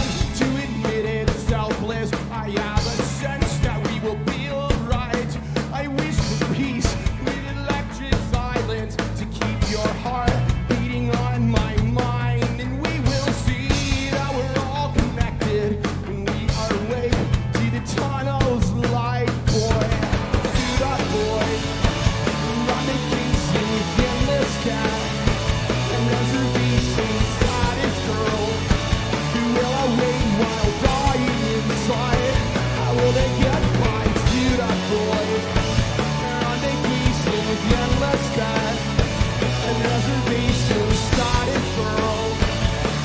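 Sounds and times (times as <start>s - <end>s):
lead singer vocal: 0.0s - 42.7s
live rock band playing: 0.0s - 43.0s.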